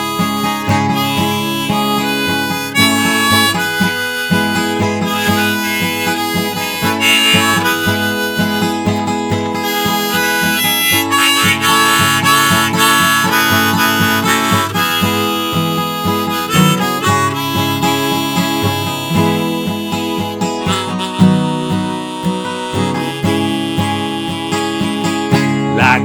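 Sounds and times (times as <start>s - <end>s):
harmonica melody: 0.0s - 26.0s
strummed acoustic guitar: 0.0s - 26.0s.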